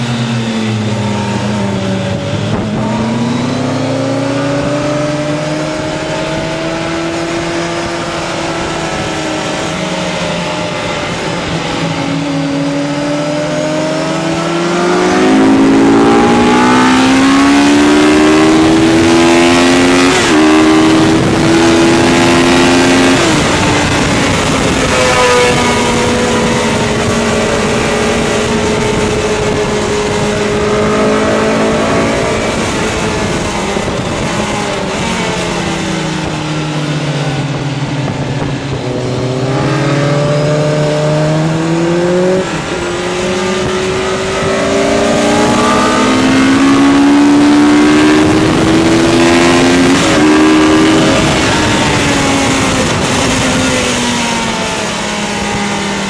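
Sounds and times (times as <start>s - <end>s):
motorcycle engine revving: 0.0s - 56.0s
wind rushing: 1.0s - 55.9s.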